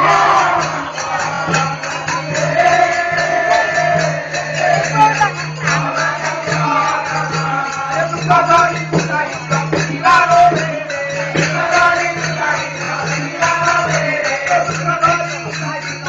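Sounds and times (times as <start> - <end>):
jingling hand percussion: 0.0 - 16.0.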